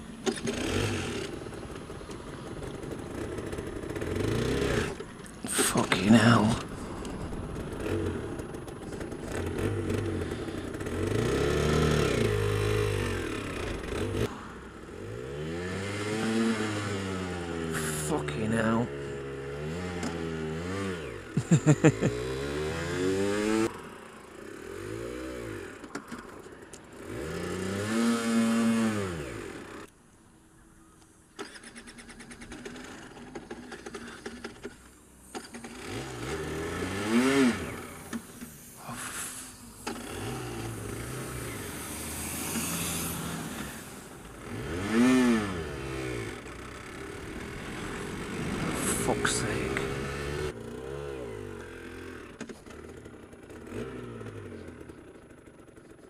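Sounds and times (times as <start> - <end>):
two-stroke motorcycle engine revving: 0.2 - 14.3, 14.9 - 26.1, 26.8 - 29.9, 31.4 - 56.0.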